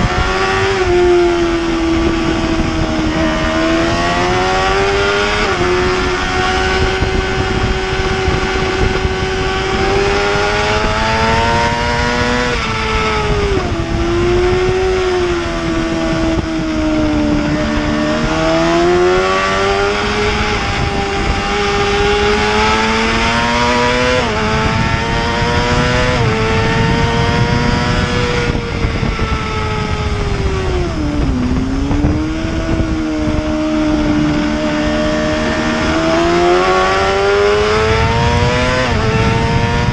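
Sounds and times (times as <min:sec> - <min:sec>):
motorbike engine revving high: 0:00.0 - 0:39.9.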